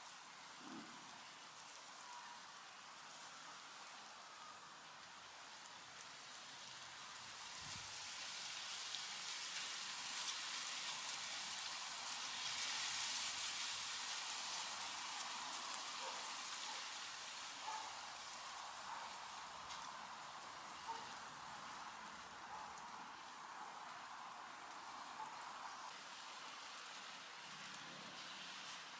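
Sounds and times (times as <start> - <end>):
guinea pigs chewing weeds: 4.1 - 28.9.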